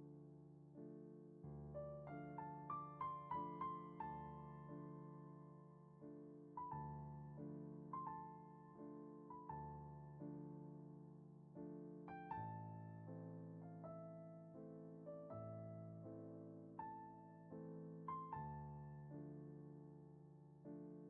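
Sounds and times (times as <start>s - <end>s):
soft slow solo piano: 0.0s - 21.0s.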